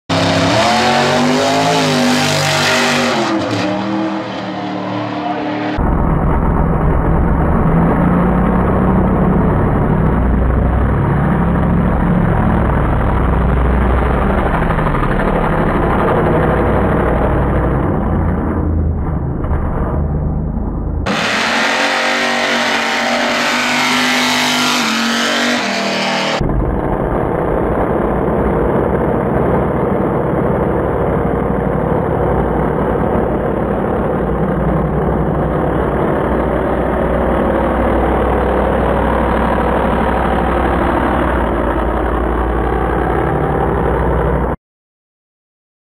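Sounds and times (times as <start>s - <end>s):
drag-race engine roaring: 0.1s - 44.6s.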